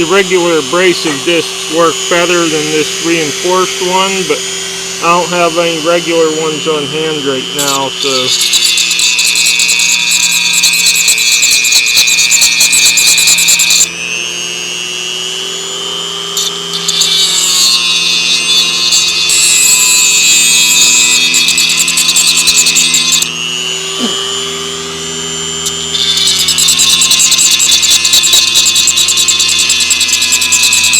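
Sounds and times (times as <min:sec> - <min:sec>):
angle grinder grinding steel: 0:00.0 - 0:30.9
grinder motor whining: 0:00.0 - 0:30.9.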